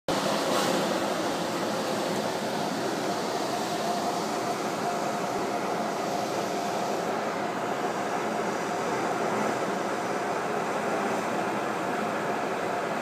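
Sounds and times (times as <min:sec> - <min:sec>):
machine hiss with faint whine: 0:00.1 - 0:13.0.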